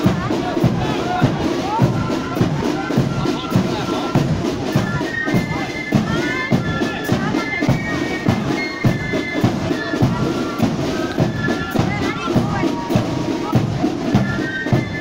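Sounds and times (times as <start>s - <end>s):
shrill flutes playing melody: 0.0s - 15.0s
steady drum beat: 0.0s - 15.0s.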